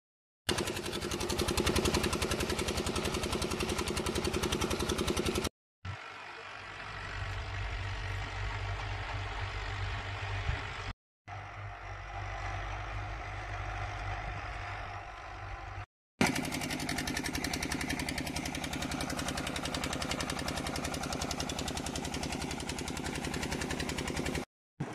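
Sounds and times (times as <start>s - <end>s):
tractor diesel engine running: 0.5s - 24.9s.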